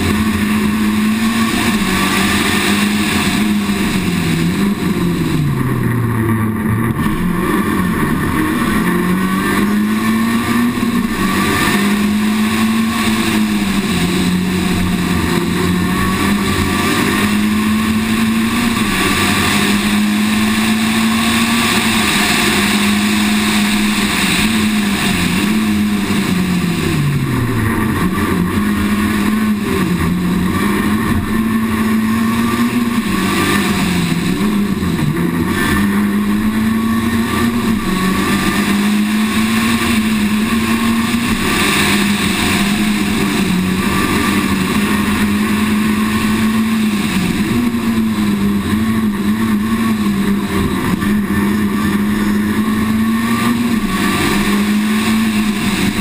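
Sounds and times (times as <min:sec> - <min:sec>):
rally car engine revving hard: 0:00.0 - 0:56.0.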